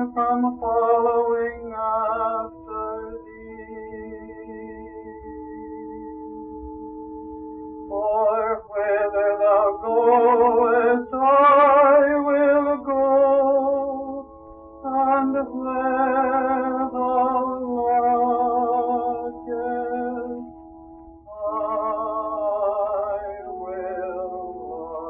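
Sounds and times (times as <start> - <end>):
man singing with vibrato: 0.0 - 5.2, 7.9 - 20.5, 21.3 - 25.0
held accompaniment chords: 0.0 - 25.0.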